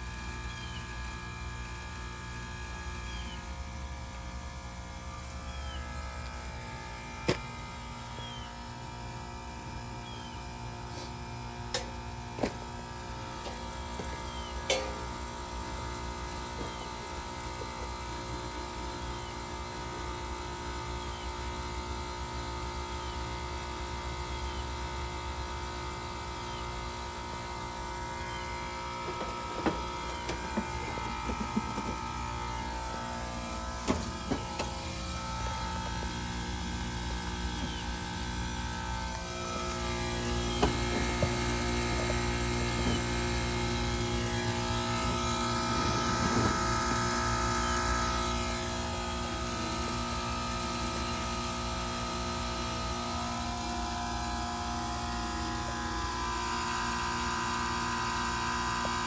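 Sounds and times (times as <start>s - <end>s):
heat pump humming: 0.0s - 59.0s.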